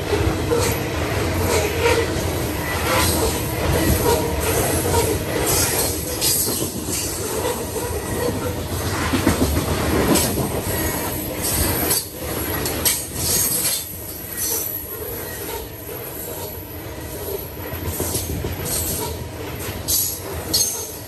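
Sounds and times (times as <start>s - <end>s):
freight train rushing past: 0.0s - 21.0s
steel wheels rumbling on rails: 0.0s - 21.0s.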